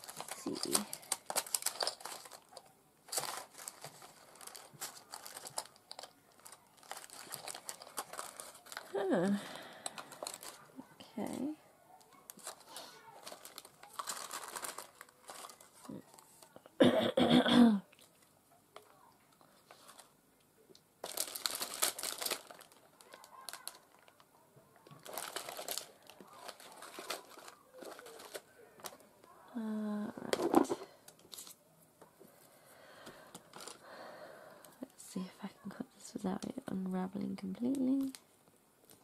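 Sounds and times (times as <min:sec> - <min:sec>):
plastic packets rustling: 0:00.0 - 0:16.6, 0:19.3 - 0:20.2, 0:21.0 - 0:31.6, 0:32.3 - 0:35.3, 0:36.0 - 0:39.0.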